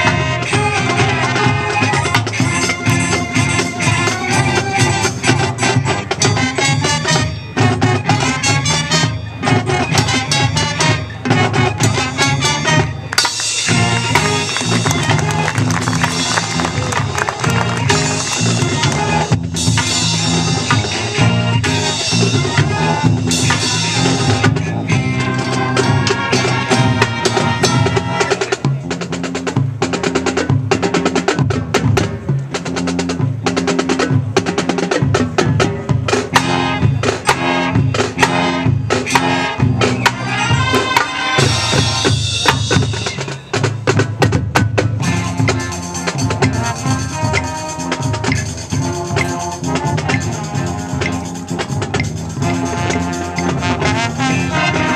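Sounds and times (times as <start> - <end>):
drumline rapid drum strokes: 0.0 - 54.9
marching band playing: 0.0 - 54.9.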